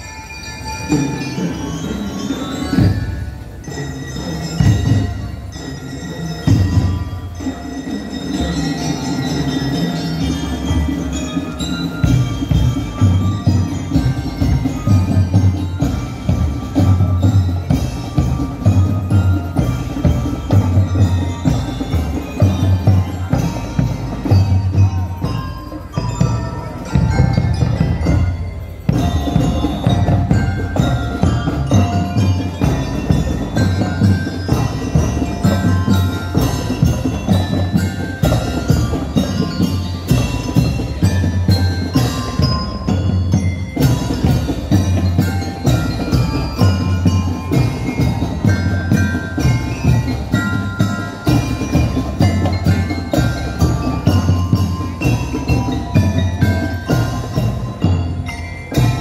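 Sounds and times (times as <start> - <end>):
bell lyres playing melody: 0.0 - 59.0
drums beating rhythm: 0.0 - 59.0.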